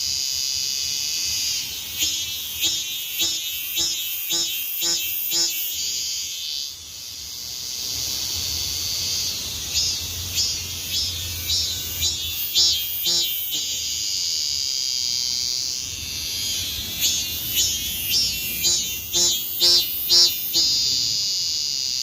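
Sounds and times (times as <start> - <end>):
cicada pulsing call: 0.0 - 22.0
cicadas buzzing: 0.0 - 22.0.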